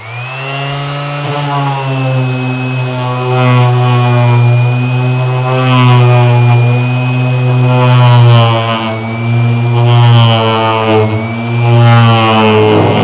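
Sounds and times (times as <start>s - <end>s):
orbital sander running: 0.0s - 13.0s.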